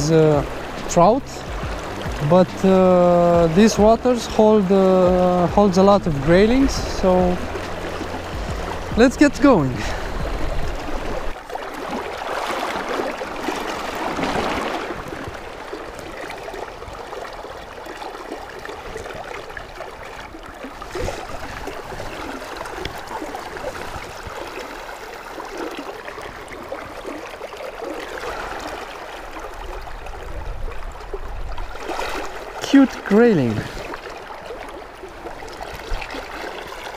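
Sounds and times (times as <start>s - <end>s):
river rushing and rippling: 0.0s - 36.9s.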